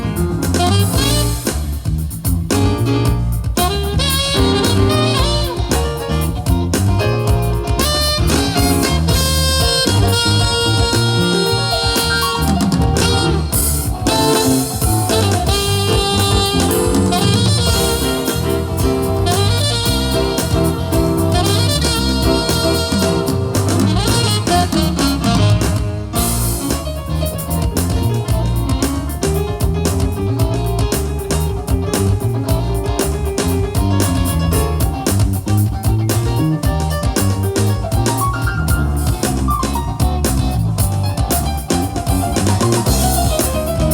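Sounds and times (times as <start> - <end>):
jazzy instrumental music: 0.0 - 43.9.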